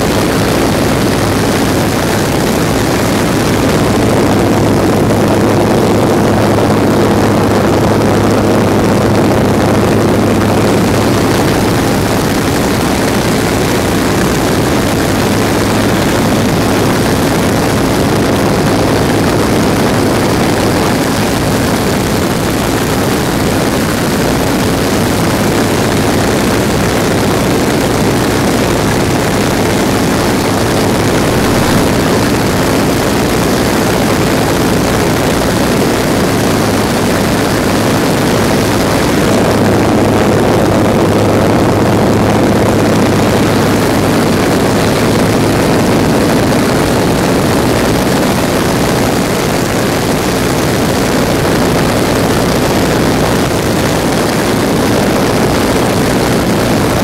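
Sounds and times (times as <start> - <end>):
plane engine and propeller drone: 0.0 - 57.0.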